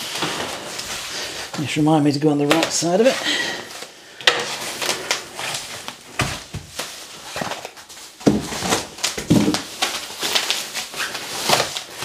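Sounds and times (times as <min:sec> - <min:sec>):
bubble wrap rustling and crinkling: 0:00.0 - 0:12.0.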